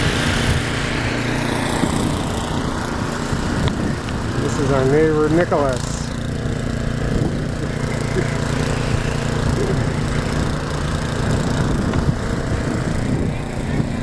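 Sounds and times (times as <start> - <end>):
snowblower engine running: 0.0 - 14.0.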